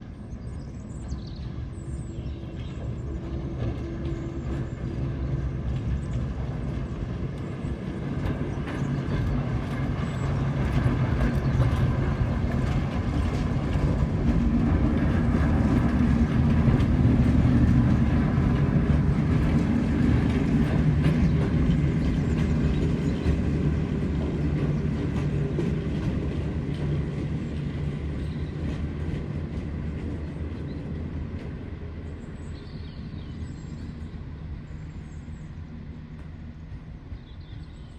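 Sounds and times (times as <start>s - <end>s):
train rumbling past: 0.0s - 37.9s.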